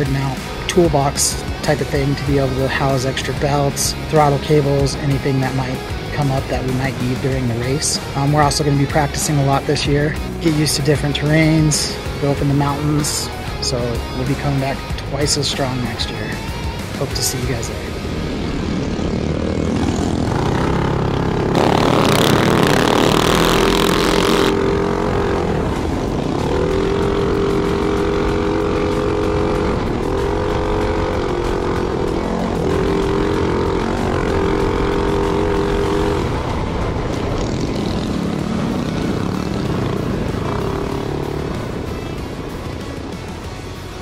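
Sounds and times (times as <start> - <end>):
harsh rushing noise: 0.0 - 44.0
minibike engine revving: 0.0 - 44.0.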